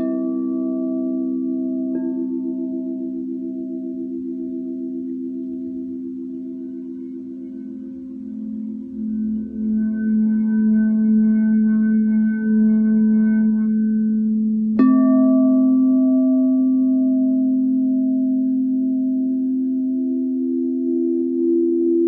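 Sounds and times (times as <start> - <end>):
singing bowl struck: 0.0 - 21.6
singing bowls humming: 0.0 - 22.0.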